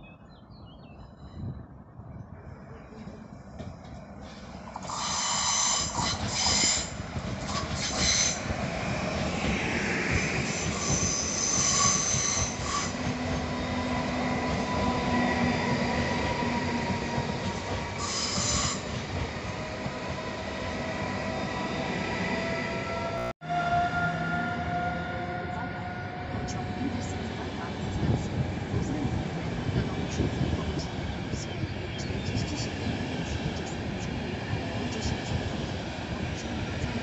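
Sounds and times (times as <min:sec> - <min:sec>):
train rail rumble: 0:01.1 - 0:37.0.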